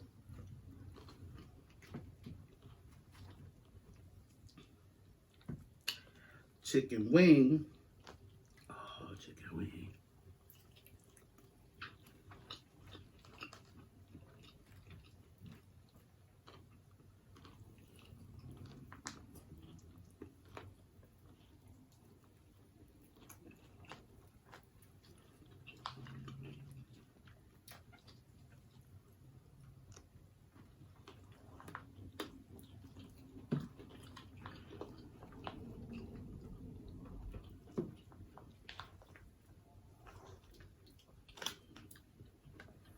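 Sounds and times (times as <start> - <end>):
chewing and biting food: 0.0 - 6.6, 7.7 - 8.7, 10.2 - 42.9.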